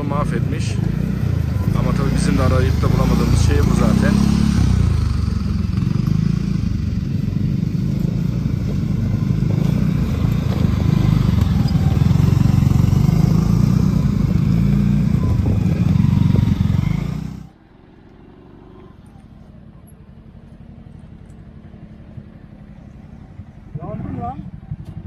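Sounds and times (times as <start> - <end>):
quad bike engine droning: 0.0 - 25.0.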